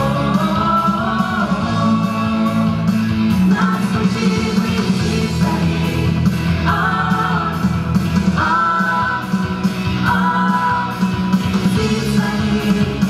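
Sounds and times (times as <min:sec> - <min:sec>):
instrumental accompaniment with beat: 0:00.0 - 0:13.0
mixed voices singing pop-rock: 0:00.0 - 0:13.0.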